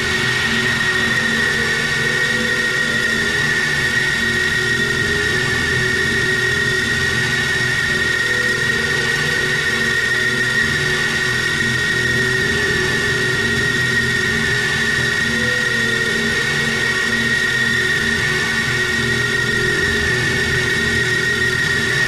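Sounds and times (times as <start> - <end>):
industrial drone music: 0.0 - 22.0.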